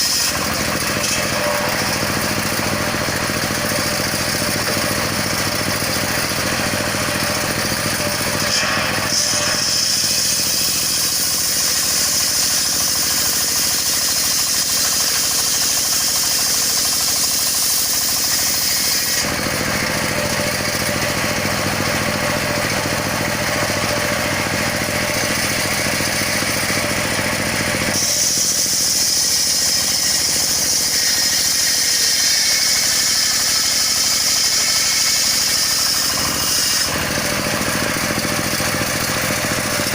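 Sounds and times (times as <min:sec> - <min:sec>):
saw blade hissing through log: 0:00.0 - 0:39.9
sawmill engine running: 0:00.0 - 0:39.9.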